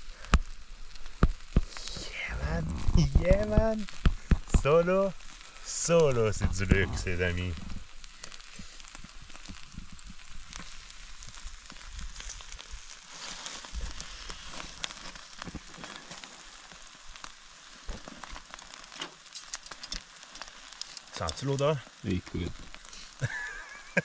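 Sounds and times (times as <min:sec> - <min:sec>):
fat popping and crackling: 0:00.0 - 0:24.0
steaks sizzling over fire: 0:00.0 - 0:24.0.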